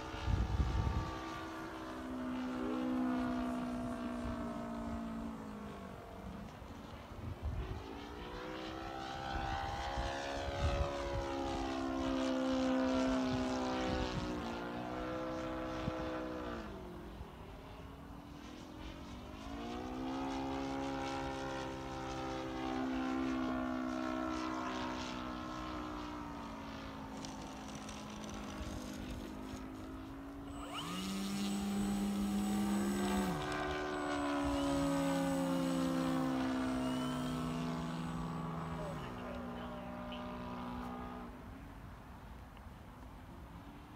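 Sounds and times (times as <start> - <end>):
low steady hum: 0.0 - 43.9
model plane engine and propeller: 0.0 - 43.9.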